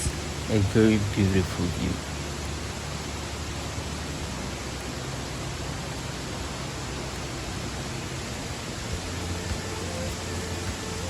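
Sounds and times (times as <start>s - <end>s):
waterfall water rushing: 0.0s - 11.0s.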